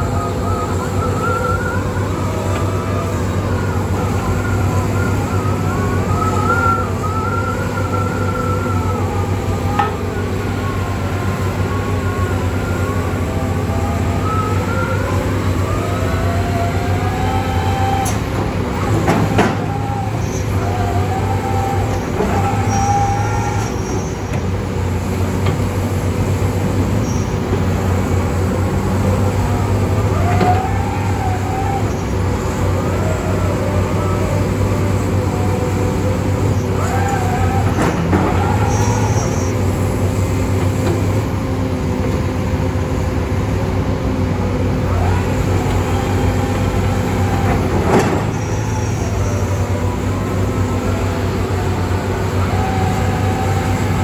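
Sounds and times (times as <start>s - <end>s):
diesel engine drone: 0.0s - 54.0s
hydraulic whine: 0.0s - 54.0s.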